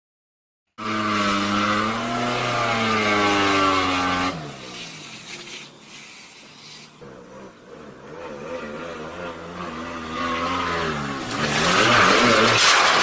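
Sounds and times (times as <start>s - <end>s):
tractor engine revving: 0.8s - 13.0s.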